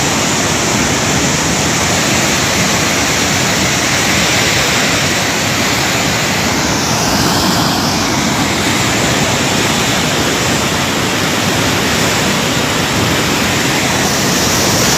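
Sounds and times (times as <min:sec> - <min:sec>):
river floodwater roaring: 0:00.0 - 0:14.9.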